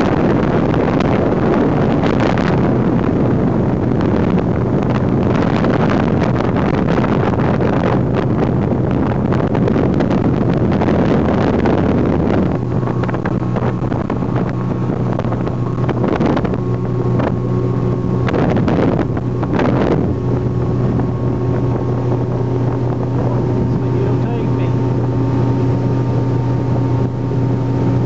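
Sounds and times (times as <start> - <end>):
motorboat engine running: 0.0 - 28.0
water rushing past hull: 0.0 - 28.0
wind buffeting microphone: 0.0 - 28.0.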